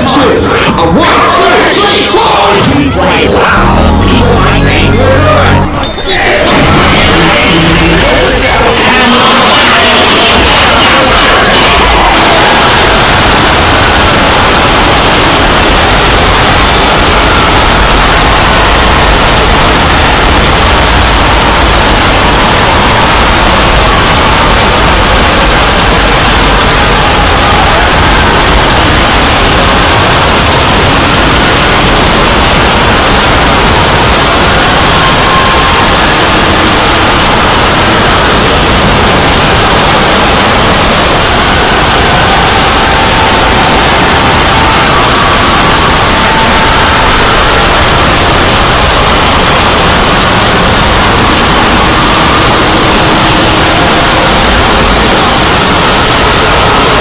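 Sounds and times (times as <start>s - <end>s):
loud static hiss: 0.0s - 57.0s.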